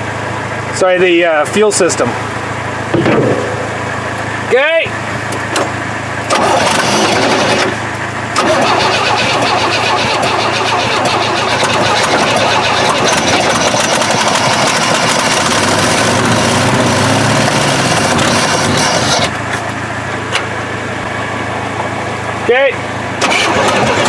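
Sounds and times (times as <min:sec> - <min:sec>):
truck engine running roughly: 0:00.0 - 0:24.0.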